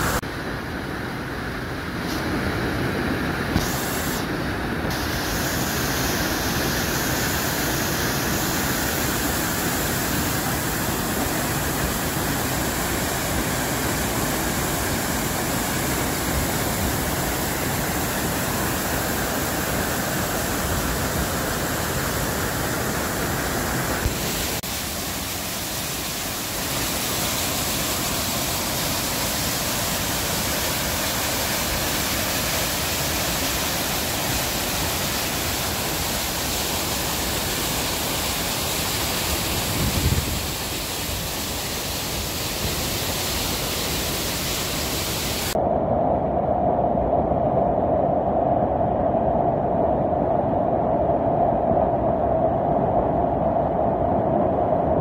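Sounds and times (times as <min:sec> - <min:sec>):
stream and waterfall rushing: 0:00.0 - 0:45.6.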